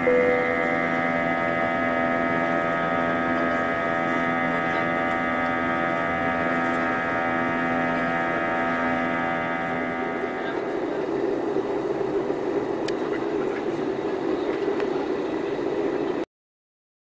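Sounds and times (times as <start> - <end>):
steady mechanical hum: 0.0 - 16.3.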